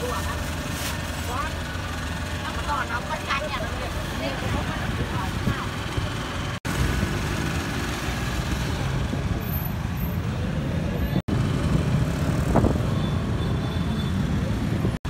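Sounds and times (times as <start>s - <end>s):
low rumble of passing vehicles: 0.0s - 15.0s.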